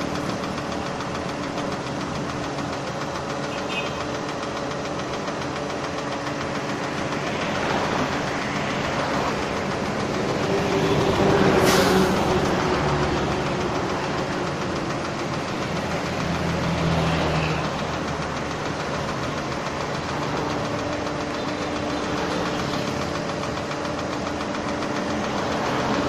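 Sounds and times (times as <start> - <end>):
crane engine running: 0.0 - 26.0.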